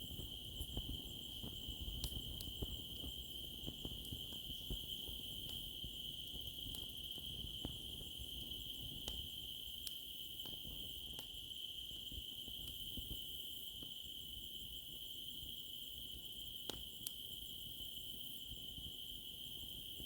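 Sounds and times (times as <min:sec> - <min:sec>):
campfire pops and crackles: 0:00.0 - 0:14.0, 0:16.1 - 0:20.0
crickets trilling: 0:00.0 - 0:20.0.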